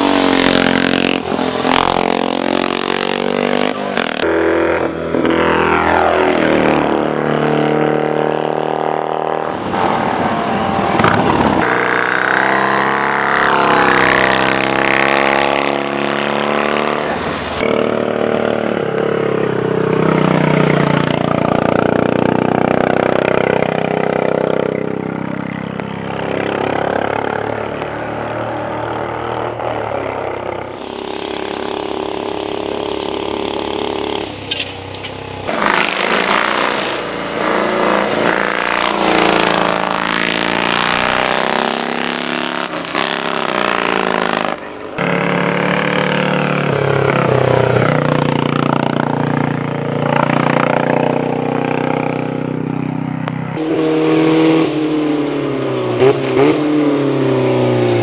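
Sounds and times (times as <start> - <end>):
racing motorcycle engines revving: 0.0 - 58.0.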